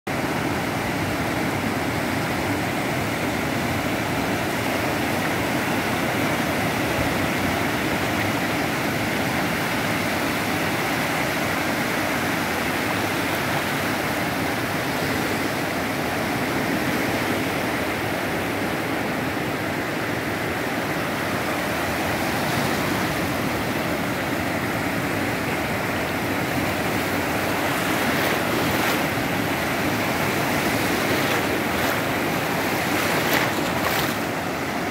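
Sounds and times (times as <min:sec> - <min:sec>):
waves washing on sandy beach: 0:00.1 - 0:34.9.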